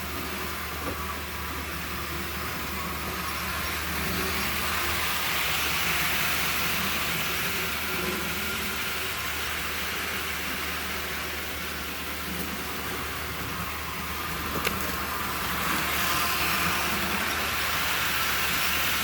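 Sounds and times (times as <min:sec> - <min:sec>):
toy train motor whir: 0:00.0 - 0:19.0.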